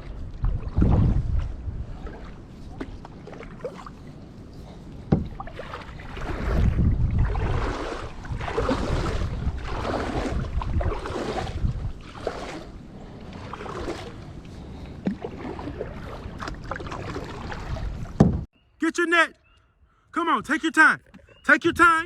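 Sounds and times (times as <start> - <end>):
water splashing around a kayak: 0.0 - 18.5
wind rumble on microphone: 0.0 - 18.5.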